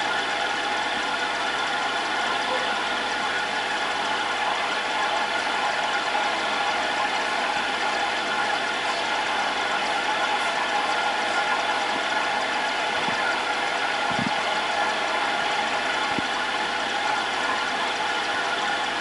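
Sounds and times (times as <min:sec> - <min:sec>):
filter pump hum: 0:00.0 - 0:19.0.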